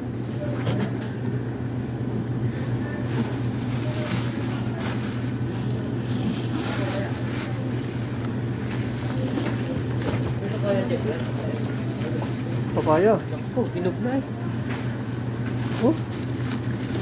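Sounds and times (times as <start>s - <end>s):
faint voices of shoppers: 0.0s - 17.0s
steady low hum: 0.0s - 17.0s.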